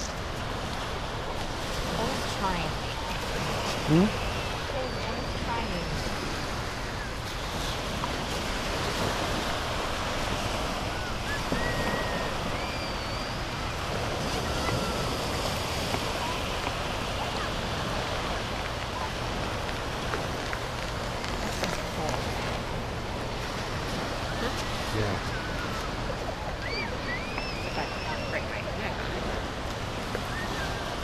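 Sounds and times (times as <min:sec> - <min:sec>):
surf washing onto beach: 0:00.0 - 0:31.0
wind on microphone: 0:00.0 - 0:31.0.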